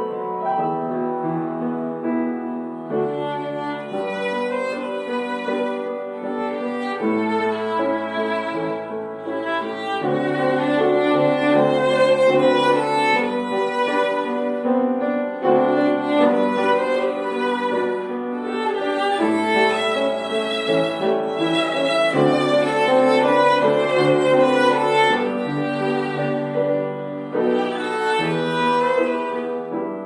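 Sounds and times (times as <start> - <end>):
violins playing melody: 2.9 - 29.8.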